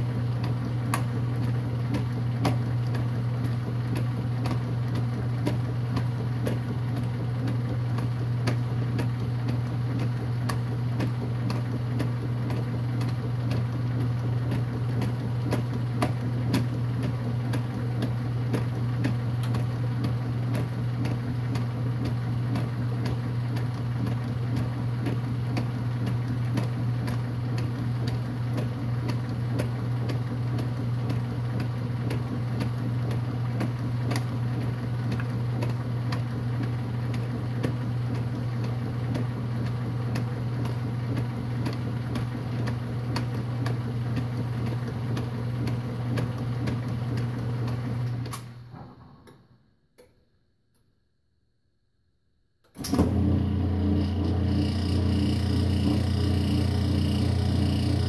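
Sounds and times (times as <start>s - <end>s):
washing machine motor hum: 0.0s - 49.4s, 52.7s - 58.0s.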